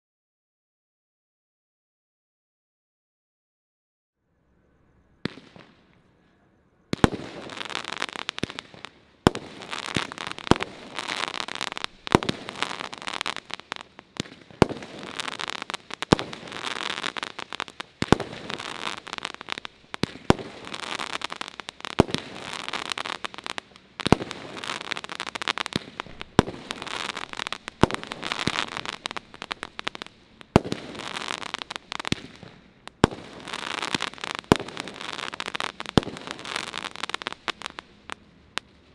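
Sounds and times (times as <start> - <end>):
crackling of bursting fireworks: 5.1 - 6.3, 6.9 - 38.9
firework launch shots: 7.0 - 38.9.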